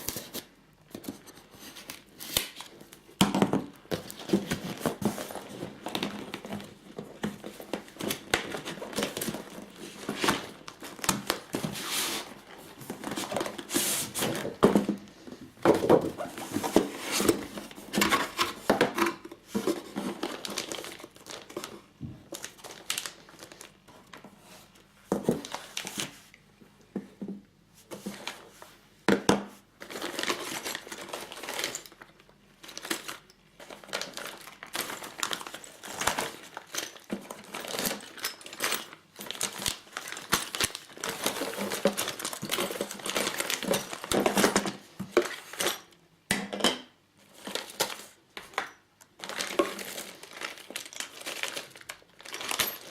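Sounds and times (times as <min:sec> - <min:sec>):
packaging crinkling and rustling: 0:00.0 - 0:26.3, 0:29.7 - 0:46.0, 0:47.2 - 0:52.9.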